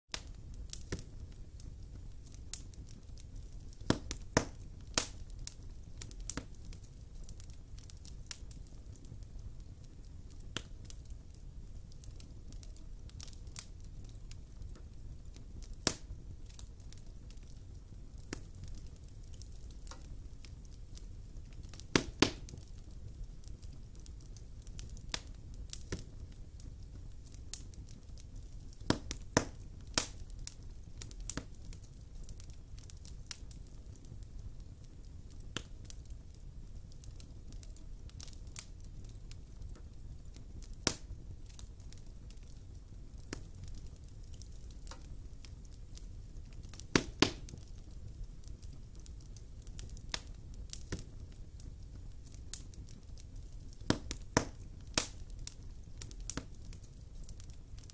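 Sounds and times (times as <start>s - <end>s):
wood fire crackling and popping: 0.1s - 57.9s.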